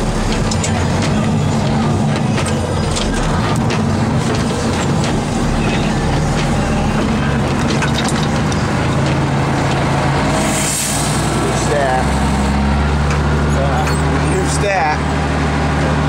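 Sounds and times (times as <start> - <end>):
plow pushing snow: 0.0 - 16.0
truck diesel engine running: 0.0 - 16.0.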